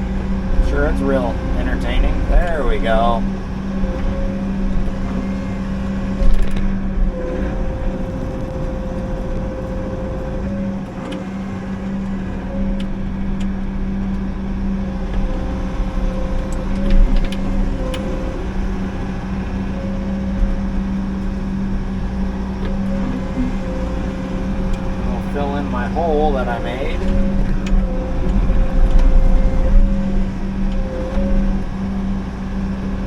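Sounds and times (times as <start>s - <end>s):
diesel engine running: 0.0s - 33.0s
hydraulic whine: 0.0s - 33.0s.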